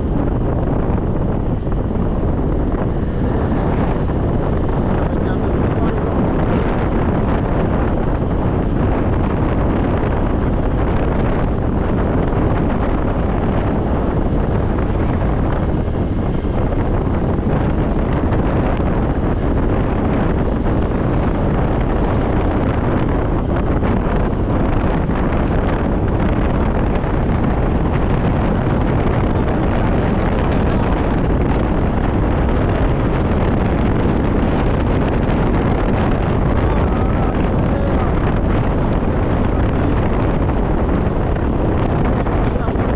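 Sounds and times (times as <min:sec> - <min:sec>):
road and vehicle rumble: 0:00.0 - 0:42.9
wind buffeting microphone: 0:00.0 - 0:42.9.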